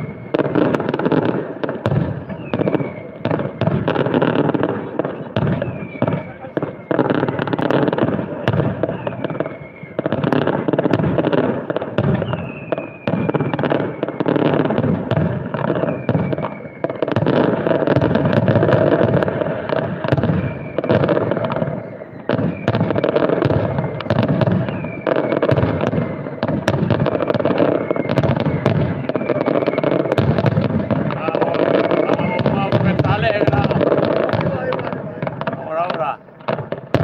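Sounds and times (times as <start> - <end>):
firework falling whistle: 0.0 - 37.0
firework shell bursts and crackling: 0.0 - 37.0.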